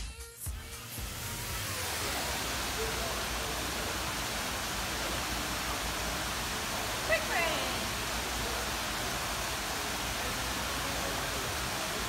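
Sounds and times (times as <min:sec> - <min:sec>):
room noise hiss: 0:00.5 - 0:12.0.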